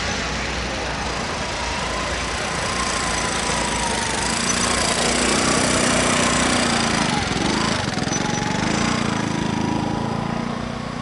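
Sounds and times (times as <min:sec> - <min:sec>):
faint high whine: 0:00.0 - 0:10.1
locomotive engine drone: 0:00.0 - 0:11.0
wind: 0:00.0 - 0:11.0.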